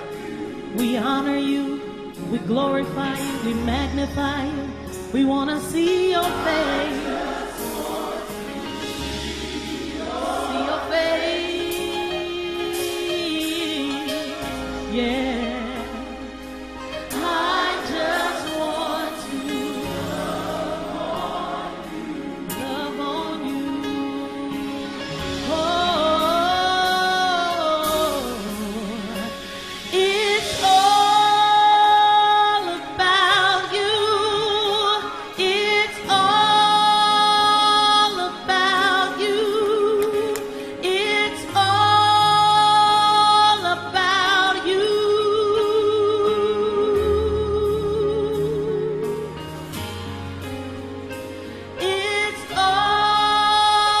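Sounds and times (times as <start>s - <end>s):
woman singing with vibrato: 0.0s - 8.1s, 10.8s - 16.3s, 17.1s - 49.3s, 51.8s - 54.0s
sustained instrumental accompaniment: 0.0s - 54.0s.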